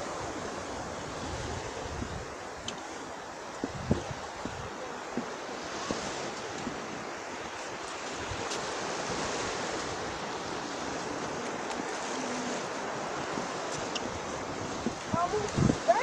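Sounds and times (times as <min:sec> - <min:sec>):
waves washing onto shore: 0:00.0 - 0:16.0.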